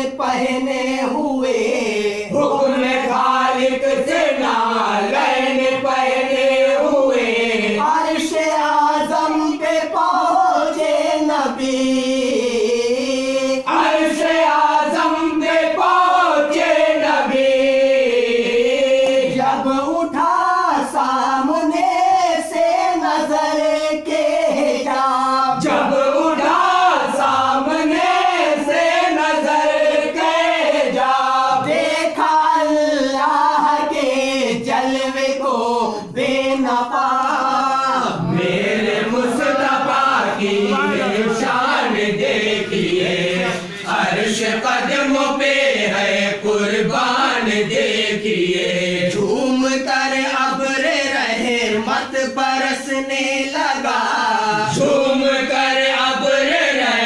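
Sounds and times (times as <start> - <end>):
voices singing devotional song: 0.0 - 57.0.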